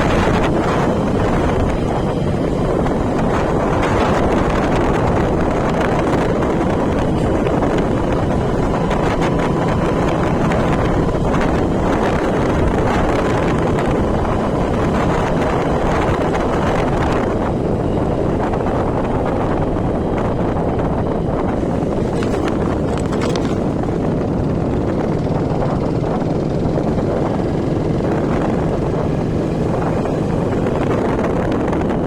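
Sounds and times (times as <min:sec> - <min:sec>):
moving vehicle running noise: 0:00.0 - 0:32.0
wind buffeting microphone: 0:00.0 - 0:32.0.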